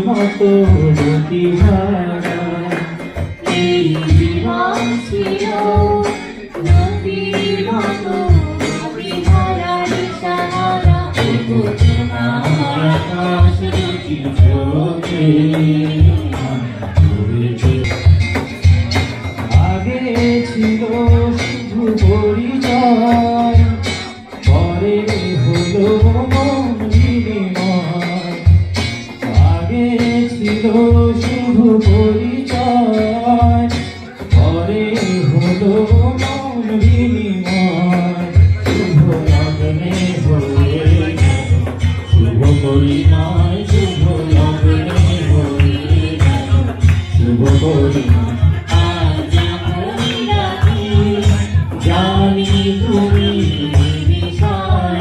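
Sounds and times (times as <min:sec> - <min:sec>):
person singing: 0:00.0 - 0:55.0
steady drum beat: 0:00.0 - 0:55.0.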